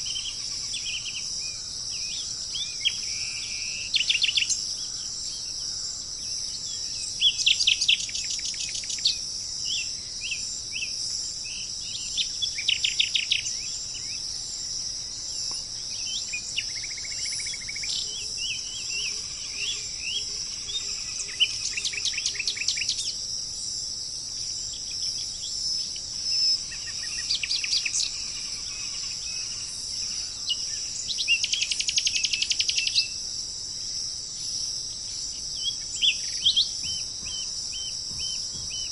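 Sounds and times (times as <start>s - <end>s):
bird chirps: 0.0s - 23.2s, 24.7s - 33.2s, 34.5s - 38.9s
birds with rattling trills: 0.0s - 38.9s
high insect drone: 0.0s - 38.9s.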